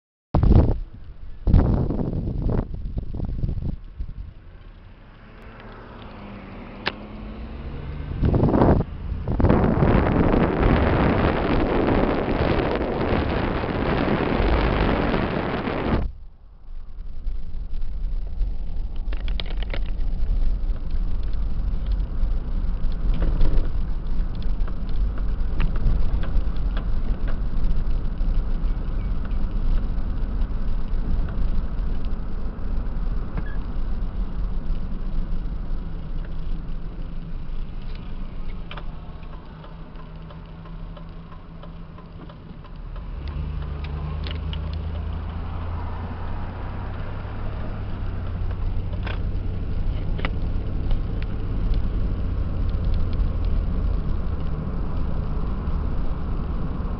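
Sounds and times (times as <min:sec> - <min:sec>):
engine and tyre rumble: 0:00.4 - 0:56.9
low engine hum: 0:00.4 - 0:56.9.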